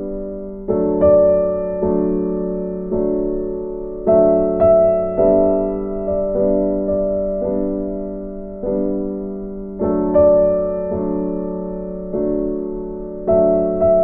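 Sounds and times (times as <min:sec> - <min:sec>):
gentle piano piece: 0:00.0 - 0:14.0.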